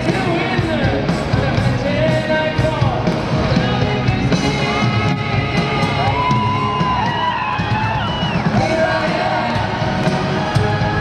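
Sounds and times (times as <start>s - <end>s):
drum beat: 0.0s - 11.0s
rock band with orchestra: 0.0s - 11.0s.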